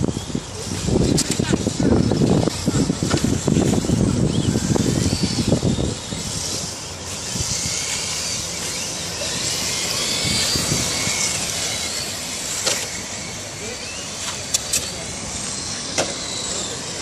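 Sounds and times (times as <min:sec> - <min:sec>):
toy car motors whining: 0:00.0 - 0:17.0.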